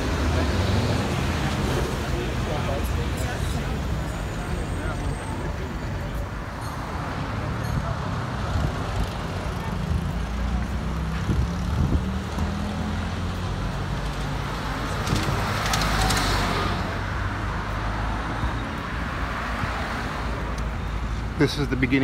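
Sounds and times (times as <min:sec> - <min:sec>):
cars driving along road: 0:00.0 - 0:22.0.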